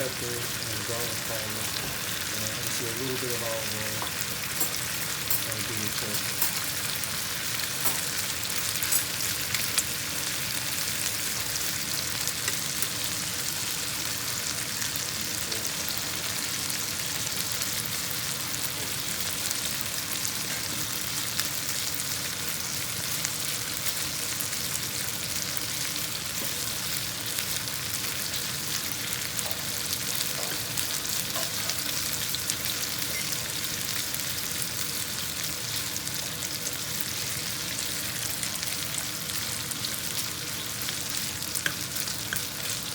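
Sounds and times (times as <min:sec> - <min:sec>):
chicken sizzling in a pan: 0:00.0 - 0:42.9.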